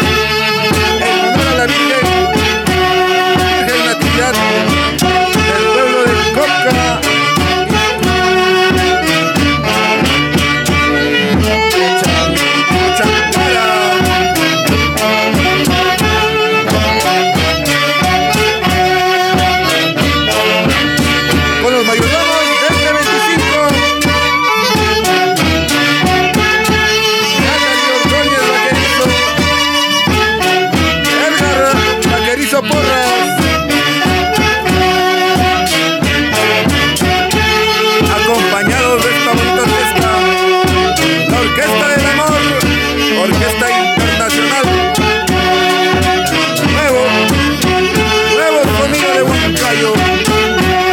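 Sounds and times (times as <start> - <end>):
folk orchestra playing dance tune: 0.0 - 50.9.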